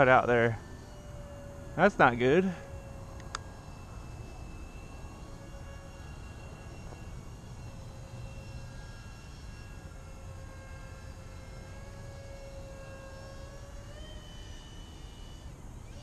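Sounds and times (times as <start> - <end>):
model airplane engine droning: 0.0 - 16.0.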